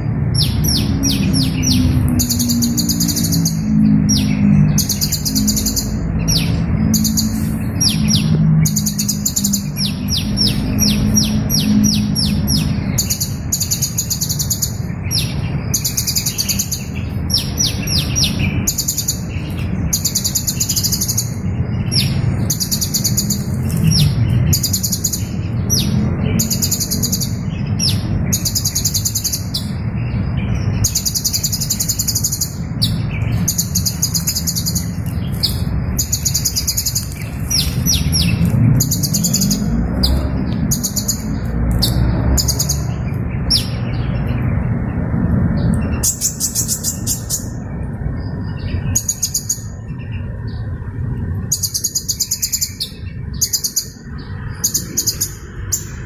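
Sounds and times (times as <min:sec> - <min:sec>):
bird buzzy trills: 0:00.0 - 0:44.9.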